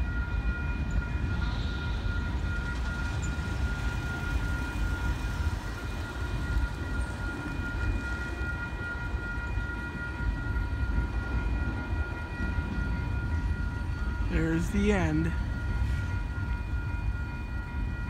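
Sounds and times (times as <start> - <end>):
high ringing tone: 0.0 - 18.0
train wheels rumbling on rail: 0.0 - 18.0.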